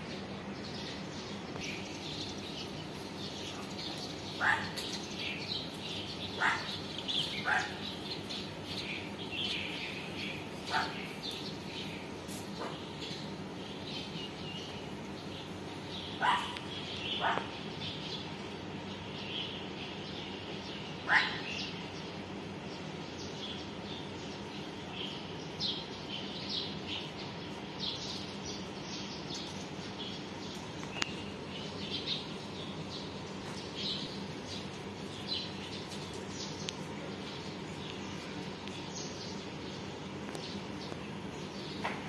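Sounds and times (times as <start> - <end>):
small birds chirping: 0.0 - 42.0
steady low background noise: 0.0 - 42.0.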